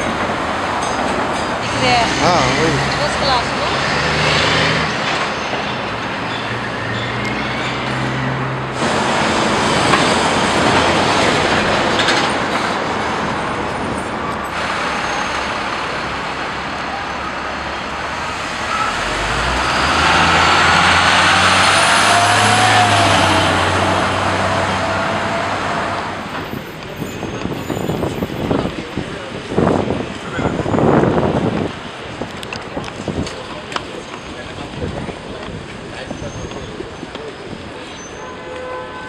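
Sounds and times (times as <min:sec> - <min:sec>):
large vehicle engine drone: 0:00.0 - 0:37.9
passing vehicles: 0:00.0 - 0:39.0.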